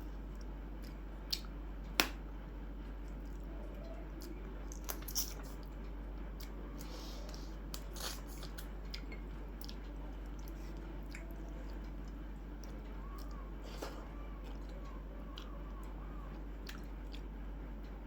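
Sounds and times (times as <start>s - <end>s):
person chewing food: 0.0s - 2.2s, 2.9s - 17.4s
wet squishes of food: 2.9s - 17.4s.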